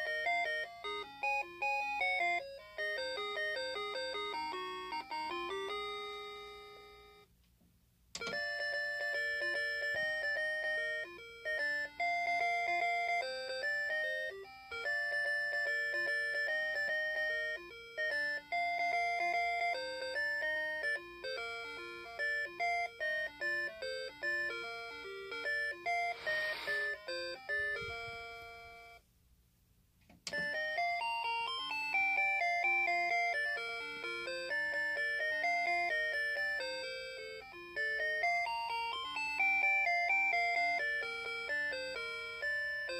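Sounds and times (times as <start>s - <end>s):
electronic clock chime melodies: 0.0s - 7.3s, 8.2s - 29.0s, 30.3s - 42.9s.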